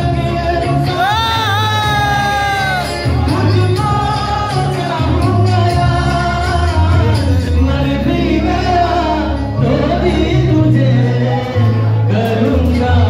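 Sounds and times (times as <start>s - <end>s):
backing track with deep bass: 0.0s - 13.0s
man singing into a microphone: 0.0s - 13.0s.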